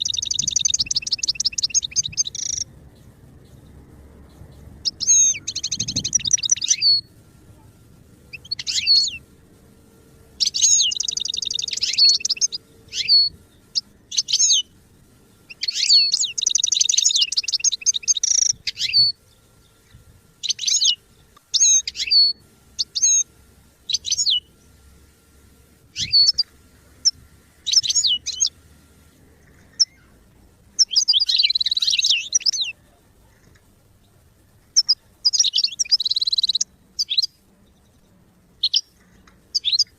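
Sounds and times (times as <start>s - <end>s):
bird twittering song: 0.0s - 9.4s, 10.2s - 25.2s, 25.8s - 39.9s.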